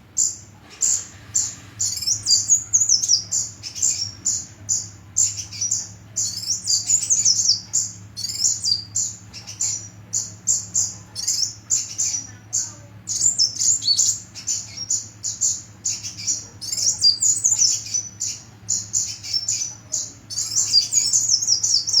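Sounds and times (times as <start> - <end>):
bird twittering: 0.2 - 22.0.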